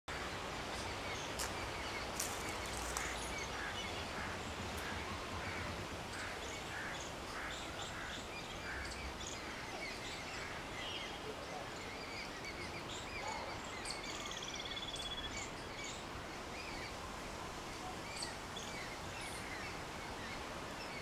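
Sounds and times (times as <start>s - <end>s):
steady outdoor hiss: 0.1s - 21.0s.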